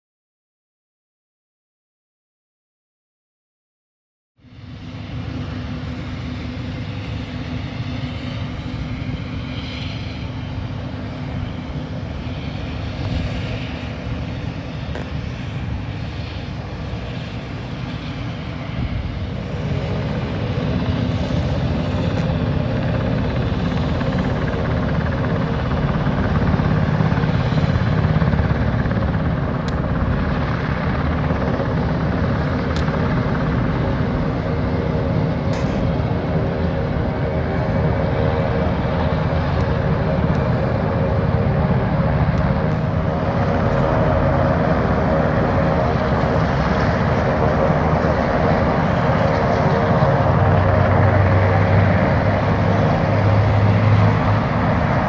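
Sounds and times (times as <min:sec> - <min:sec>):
helicopter engines and rotors: 0:04.4 - 0:55.0.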